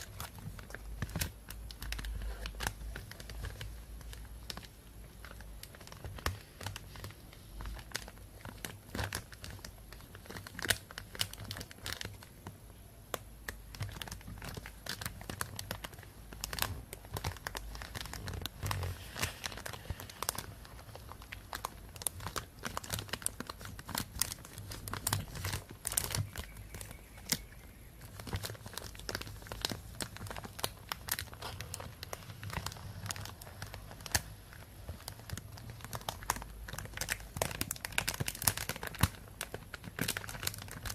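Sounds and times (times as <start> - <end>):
plastic bag crinkling: 0.0 - 12.6, 13.5 - 40.9.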